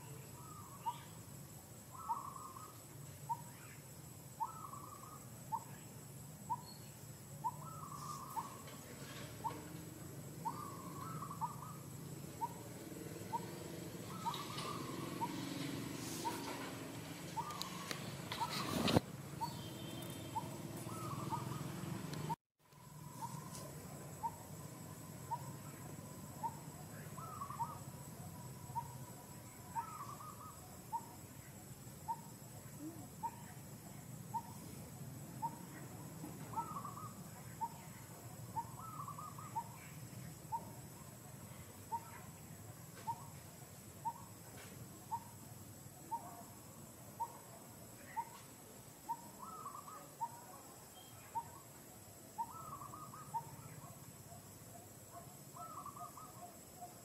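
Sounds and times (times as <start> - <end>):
bird chirping phrases: 0.0 - 57.0.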